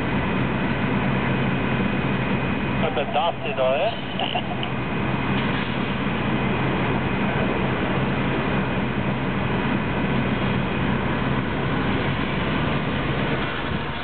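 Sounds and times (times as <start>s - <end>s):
excavator diesel engines droning: 0.0s - 14.0s.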